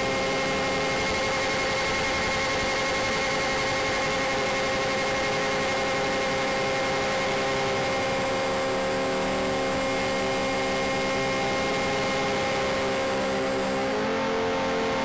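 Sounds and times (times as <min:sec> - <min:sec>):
model plane motors droning: 0:00.0 - 0:15.0.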